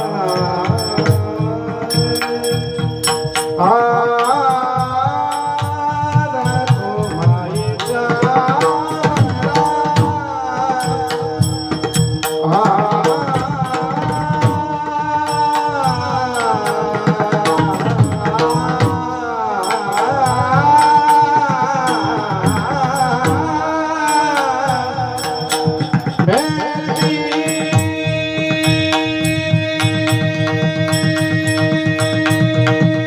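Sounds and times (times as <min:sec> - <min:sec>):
hand cymbals ringing: 0:00.0 - 0:33.0
hand drum playing: 0:00.0 - 0:33.0
person singing: 0:00.0 - 0:33.0.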